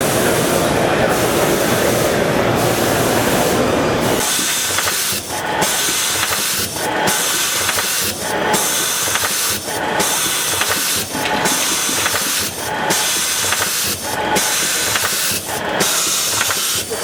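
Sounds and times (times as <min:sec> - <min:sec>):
machine hissing steadily: 0:00.0 - 0:17.0.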